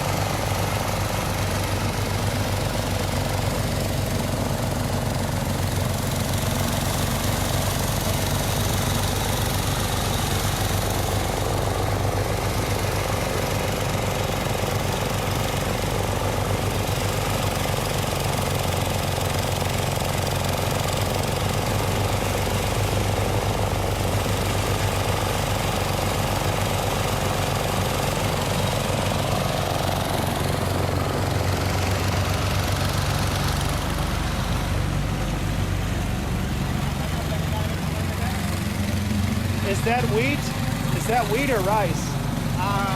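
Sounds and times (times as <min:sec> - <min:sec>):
threshing machine engine rattling: 0:00.0 - 0:42.9.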